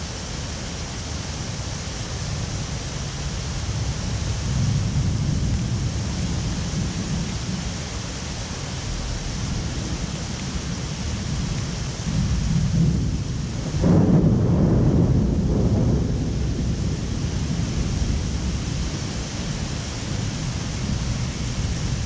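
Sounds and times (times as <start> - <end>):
heavy rain: 0.0 - 22.0
thunder rumbling: 3.3 - 7.9, 8.7 - 22.0.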